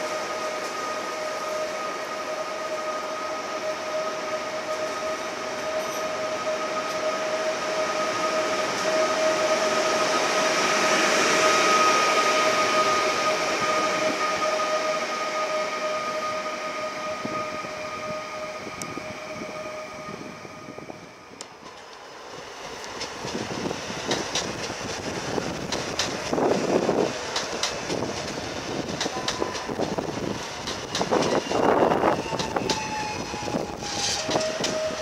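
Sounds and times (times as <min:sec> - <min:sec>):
electric train rolling past: 0:00.0 - 0:35.0.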